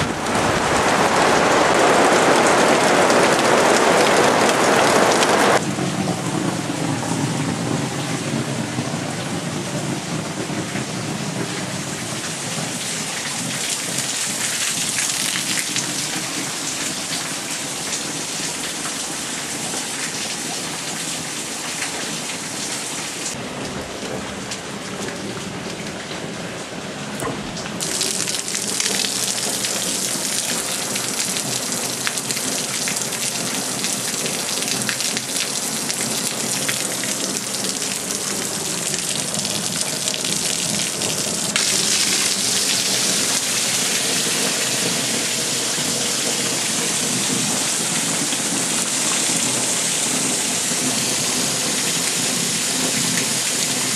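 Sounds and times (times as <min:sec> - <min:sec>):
heavy rain on plastic roof: 0:00.0 - 0:53.9.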